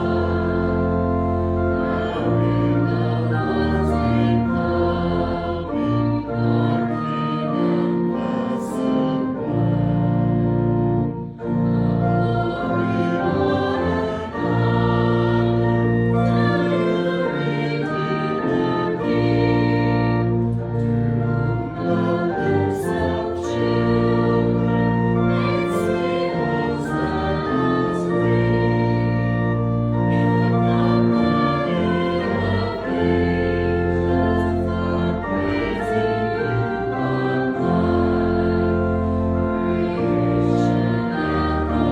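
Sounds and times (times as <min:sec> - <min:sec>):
many voices singing a hymn: 0:00.0 - 0:41.9
organ accompaniment: 0:00.0 - 0:41.9.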